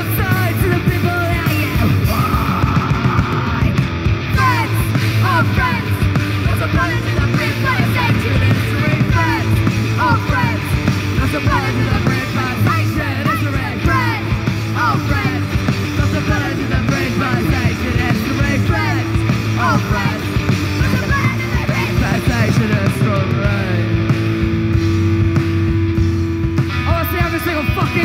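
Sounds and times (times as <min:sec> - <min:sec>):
singer yelling: 0:00.0 - 0:24.1, 0:26.8 - 0:28.0
bass guitar: 0:00.0 - 0:28.0
distorted electric guitar: 0:00.0 - 0:28.0
drums: 0:00.0 - 0:28.0.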